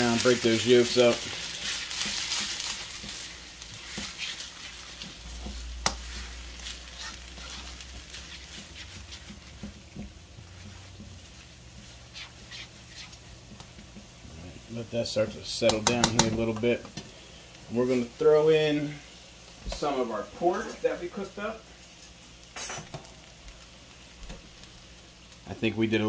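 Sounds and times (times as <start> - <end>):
rice and eggs sizzling in wok: 0.0 - 26.0.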